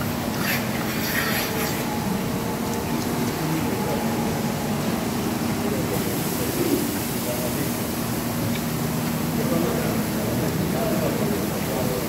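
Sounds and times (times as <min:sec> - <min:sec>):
milking machinery hum: 0:00.0 - 0:12.0.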